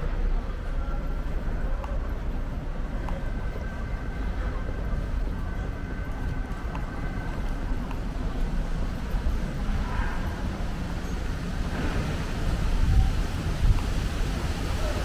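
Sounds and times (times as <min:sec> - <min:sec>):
distant traffic: 0:00.0 - 0:15.0
low city rumble: 0:00.0 - 0:15.0.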